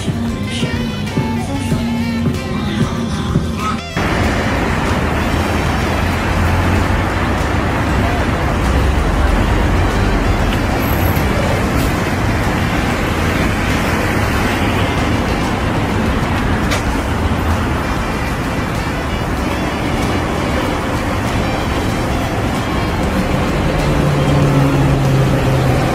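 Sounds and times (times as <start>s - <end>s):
low traffic rumble: 0.0s - 25.9s
urban din: 0.0s - 25.9s.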